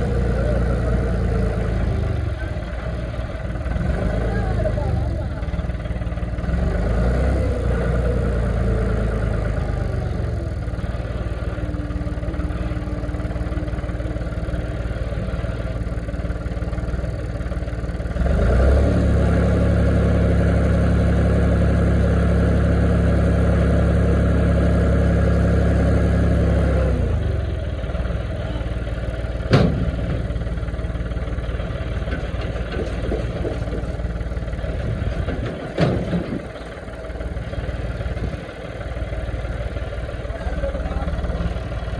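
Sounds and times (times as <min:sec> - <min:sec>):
harvester engine running: 0:00.0 - 0:41.9.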